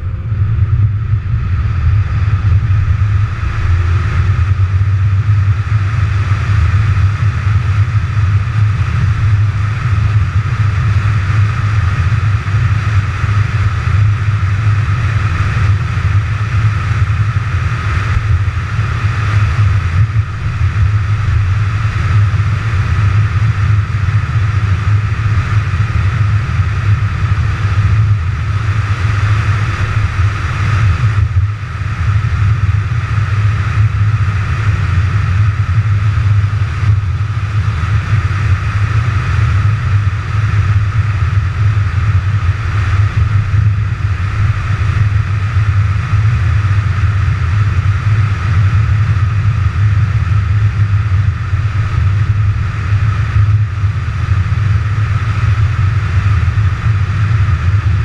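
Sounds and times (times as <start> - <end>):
car engine droning: 0.0 - 58.0
road noise hiss: 0.0 - 58.0.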